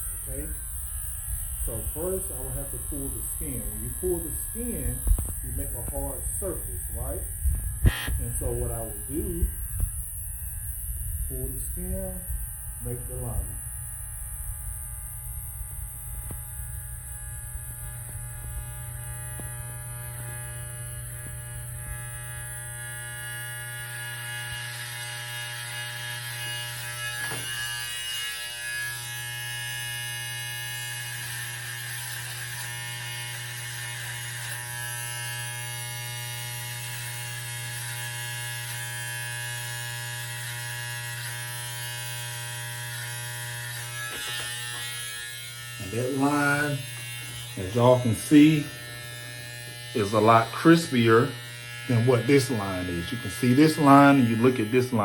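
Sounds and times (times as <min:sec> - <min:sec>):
hair trimmer buzzing: 0:00.0 - 0:55.0.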